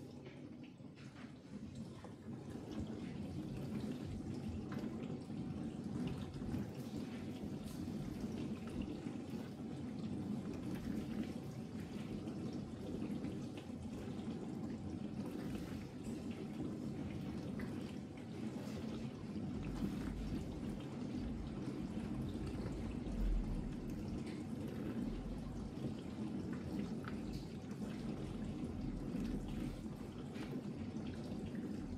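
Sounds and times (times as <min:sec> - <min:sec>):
dishwasher low hum: 0:00.0 - 0:31.9
water splashing in dishwasher: 0:00.0 - 0:31.9.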